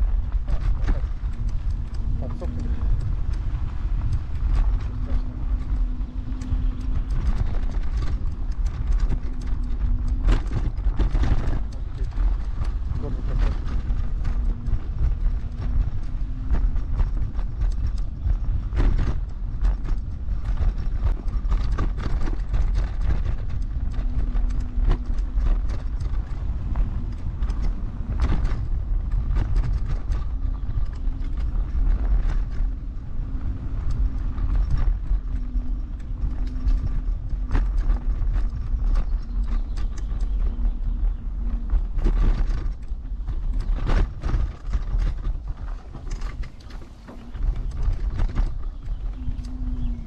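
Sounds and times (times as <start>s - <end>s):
faint motor whine: 0.0s - 50.0s
scooter frame rattling: 0.0s - 50.0s
wind and tyres rumbling: 0.0s - 50.0s.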